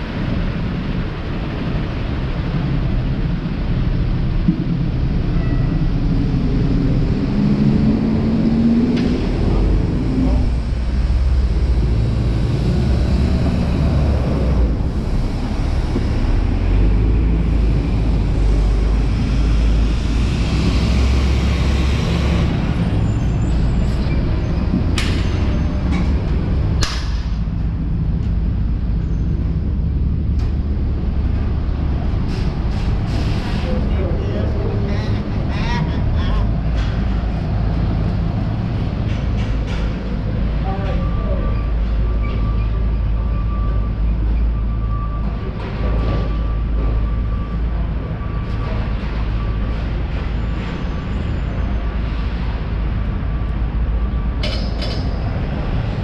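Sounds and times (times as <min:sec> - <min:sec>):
passing traffic rumble: 0:00.0 - 0:56.0.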